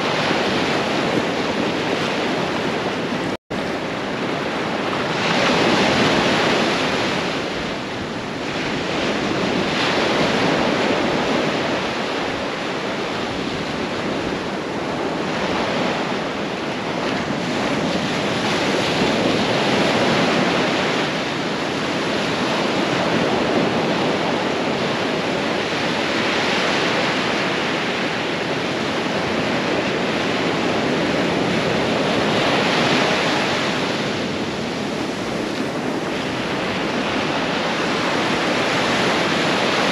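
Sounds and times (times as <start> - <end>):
ocean surf breaking on sand: 0.0 - 39.9.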